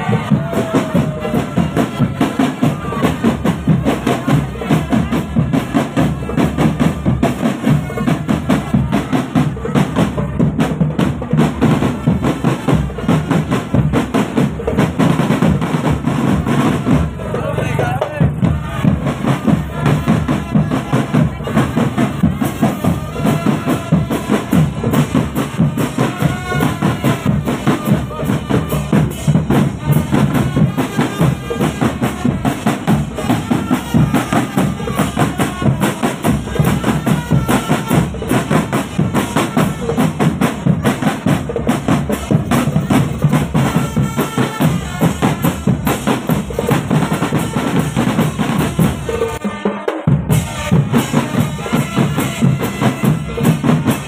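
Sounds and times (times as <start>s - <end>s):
marching drum band: 0.0s - 54.0s
melody over drums: 0.0s - 54.0s.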